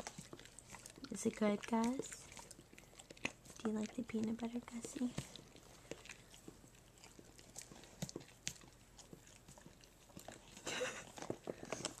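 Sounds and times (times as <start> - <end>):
dog licking and smacking: 0.0 - 12.0.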